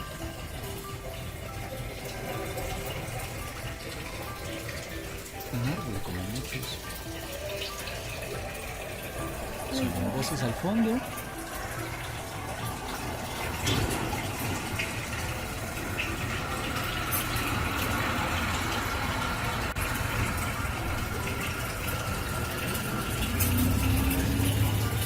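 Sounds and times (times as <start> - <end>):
rushing water-like noise: 0.0 - 25.0.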